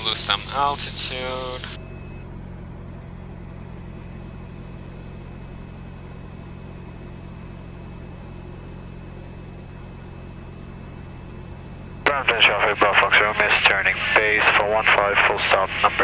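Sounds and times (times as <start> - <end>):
airplane engine and propeller drone: 0.0 - 16.0.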